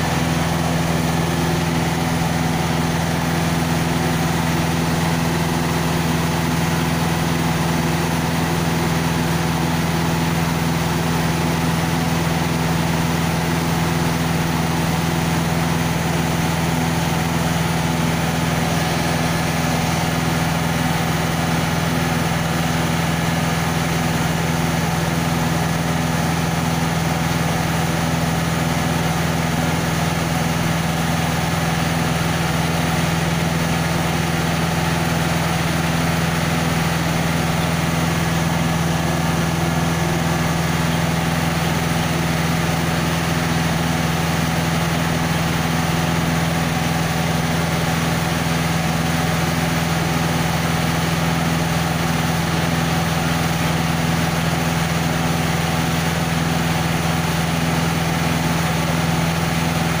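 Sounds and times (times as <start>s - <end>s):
diesel engine humming: 0.0s - 60.0s.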